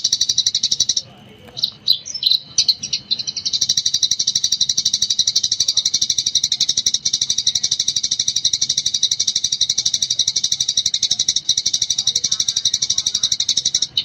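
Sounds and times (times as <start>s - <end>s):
sparrow chattering: 0.0s - 14.0s.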